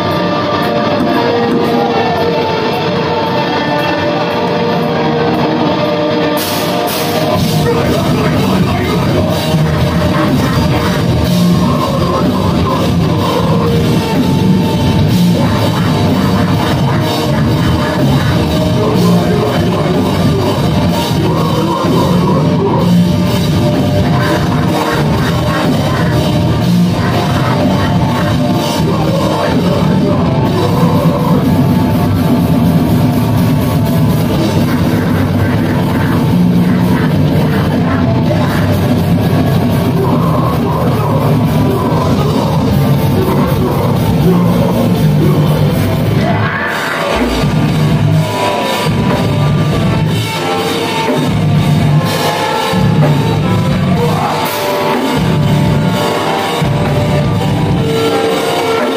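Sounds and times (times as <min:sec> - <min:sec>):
metal band playing live: 0:00.0 - 0:58.9.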